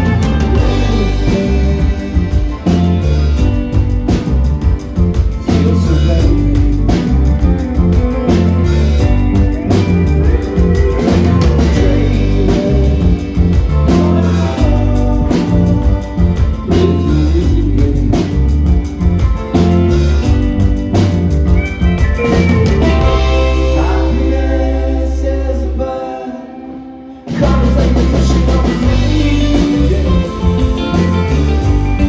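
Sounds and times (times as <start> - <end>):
person singing: 0.0 - 20.2, 21.8 - 32.0
live rock band playing: 0.0 - 25.7, 26.4 - 32.0.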